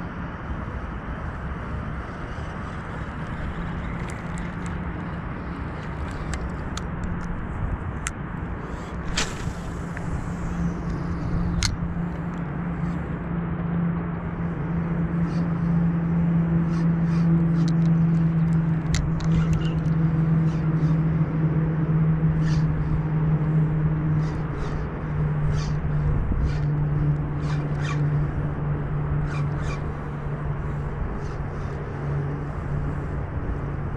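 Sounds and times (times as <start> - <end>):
low mechanical hum: 0.0 - 33.9.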